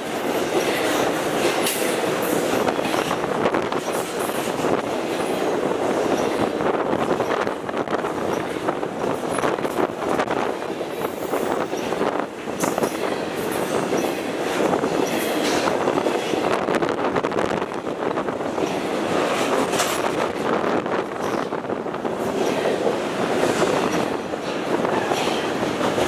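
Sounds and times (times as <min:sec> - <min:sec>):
train cars clanking and rattling: 0:00.0 - 0:26.0
train wheels rumbling on rail: 0:00.0 - 0:26.0.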